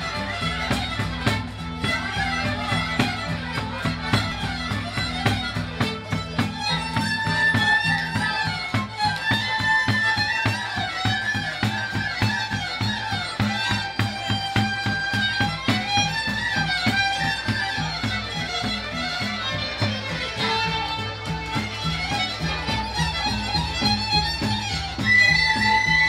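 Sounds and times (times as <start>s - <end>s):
accordion: 0.0s - 26.0s
drum beat: 0.0s - 26.0s
violin melody: 0.0s - 26.0s.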